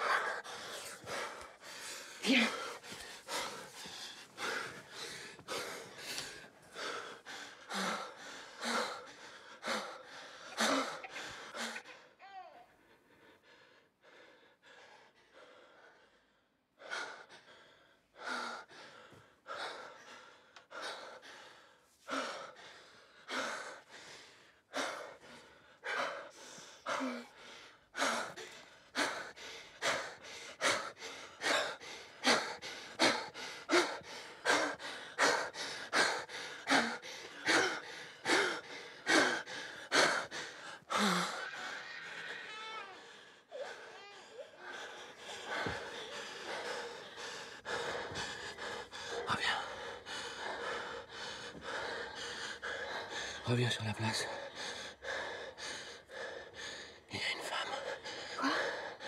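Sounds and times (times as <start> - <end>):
woman breathing heavily and gasping: 0.0 - 59.0.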